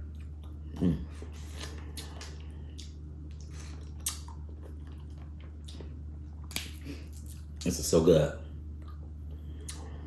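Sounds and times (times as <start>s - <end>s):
person chewing and crunching: 0.0s - 7.7s, 8.7s - 10.0s.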